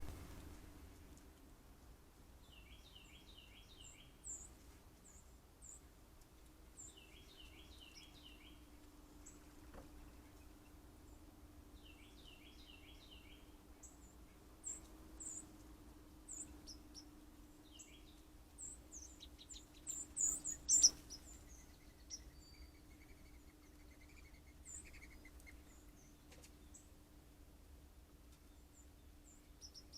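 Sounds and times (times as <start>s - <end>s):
faint low hum: 0.0s - 29.9s
songbirds chirping: 0.0s - 29.9s.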